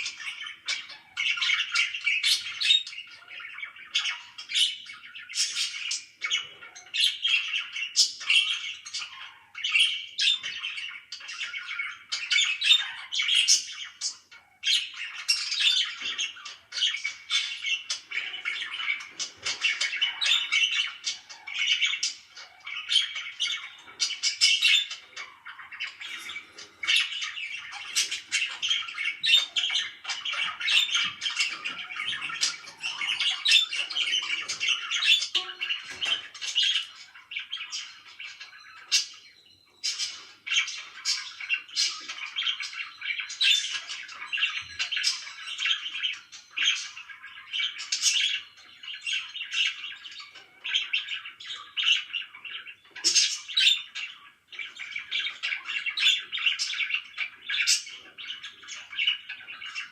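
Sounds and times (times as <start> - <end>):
parakeets chirping and squawking: 0.0 - 59.9.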